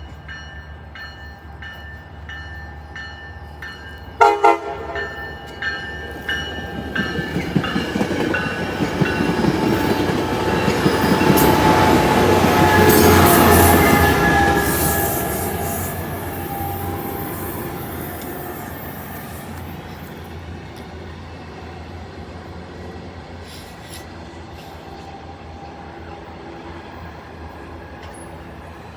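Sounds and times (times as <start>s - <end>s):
train rumble and rail noise: 0.0s - 28.9s.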